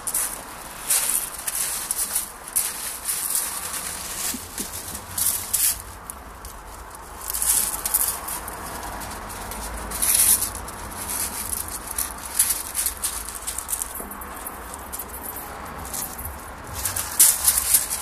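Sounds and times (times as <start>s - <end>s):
gravel crunching underfoot: 0.0s - 18.0s.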